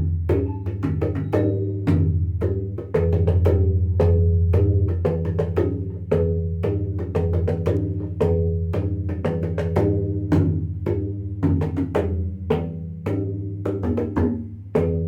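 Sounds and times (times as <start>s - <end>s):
tabla bass drum strokes: 0.0s - 15.0s.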